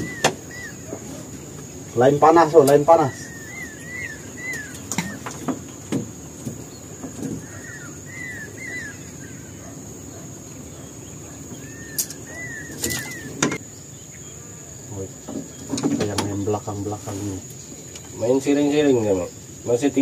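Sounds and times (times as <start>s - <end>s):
bird chirping: 0.0s - 20.0s
high insect whine: 0.0s - 20.0s.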